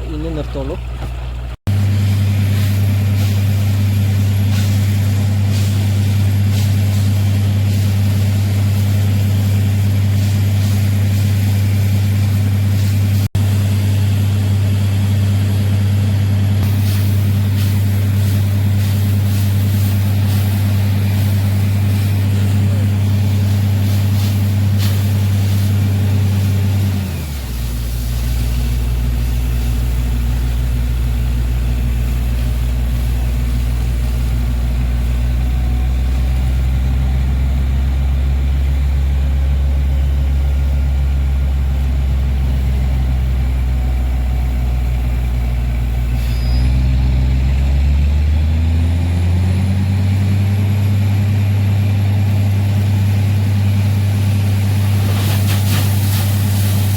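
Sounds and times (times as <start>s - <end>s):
drilling rig engine droning: 0.0s - 56.9s.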